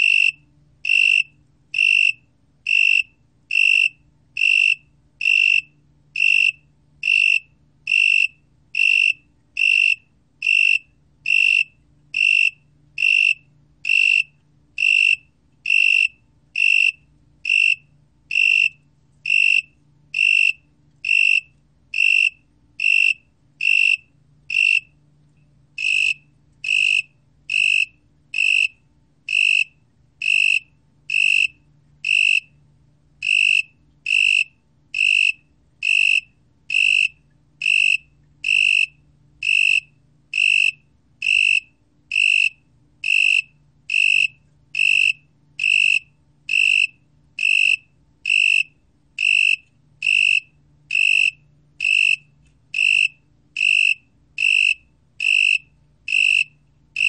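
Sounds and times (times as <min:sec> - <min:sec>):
tree cricket chirping: 0:00.0 - 0:25.0, 0:25.8 - 0:32.6, 0:33.2 - 0:57.0.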